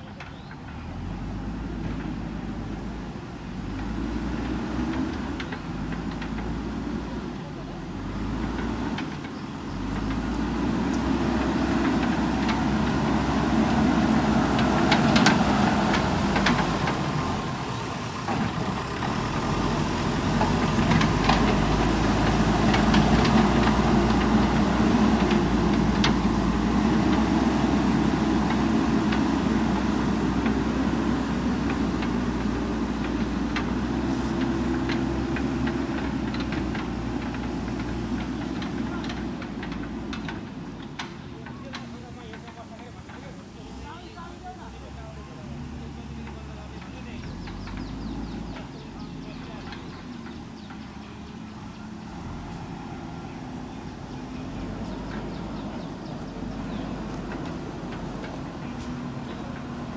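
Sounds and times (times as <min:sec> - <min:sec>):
diesel engine running: 0:00.0 - 0:59.9
sharp clicks and knocks: 0:03.7 - 0:07.2, 0:08.0 - 0:17.6, 0:18.2 - 0:43.4, 0:45.6 - 0:51.5, 0:53.4 - 0:59.9.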